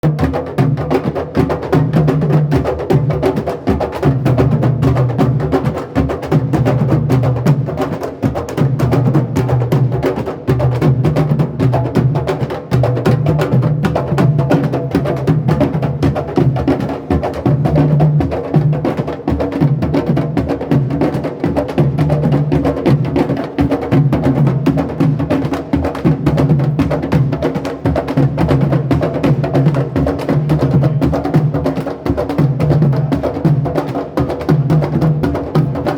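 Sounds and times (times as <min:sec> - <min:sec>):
fast clicking percussion: 0:00.0 - 0:35.9.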